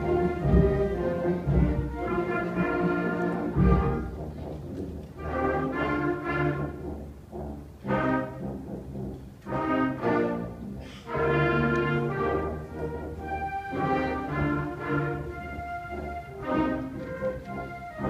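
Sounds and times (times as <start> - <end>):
concert band playing: 0.0 - 18.0.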